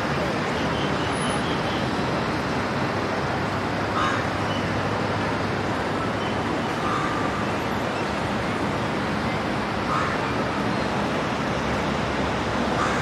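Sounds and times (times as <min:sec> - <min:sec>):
road traffic hiss: 0:00.0 - 0:13.0.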